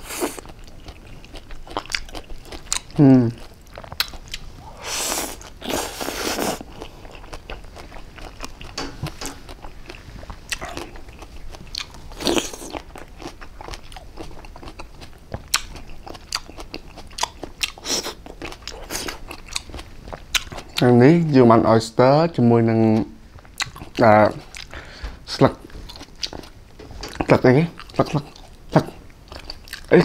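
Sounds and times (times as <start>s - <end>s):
wet crunching and chewing: 0.0s - 20.9s, 23.0s - 30.0s.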